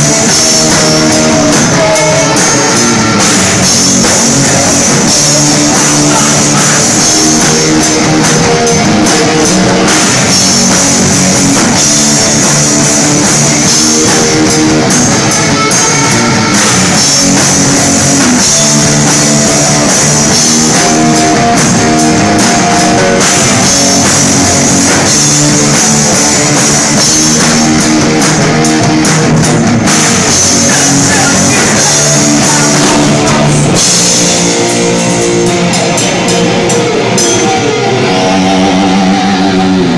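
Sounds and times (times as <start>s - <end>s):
bass guitar: 0.0s - 39.9s
drum kit with cymbal hits: 0.0s - 39.9s
electric guitar: 0.0s - 39.9s.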